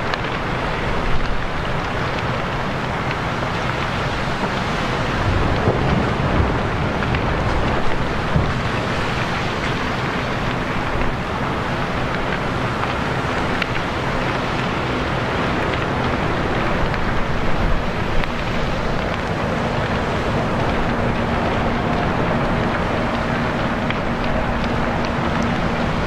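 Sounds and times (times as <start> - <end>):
fire rushing: 0.0 - 26.0
low engine hum: 0.0 - 26.0.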